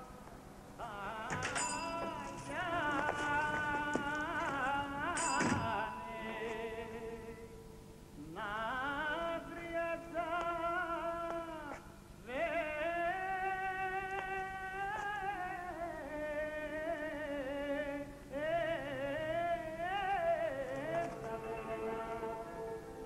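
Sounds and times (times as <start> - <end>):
solo voice singing with music: 0.0 - 23.0.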